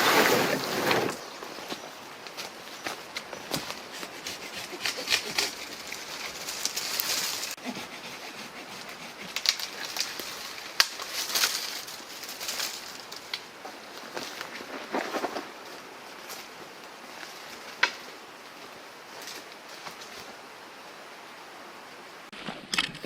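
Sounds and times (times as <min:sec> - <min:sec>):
brush and twigs rustling: 0:00.0 - 0:20.5.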